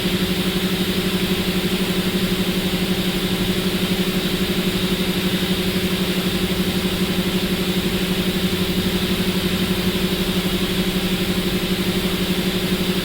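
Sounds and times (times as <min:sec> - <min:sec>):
machine humming with rapid pulse: 0:00.0 - 0:13.0.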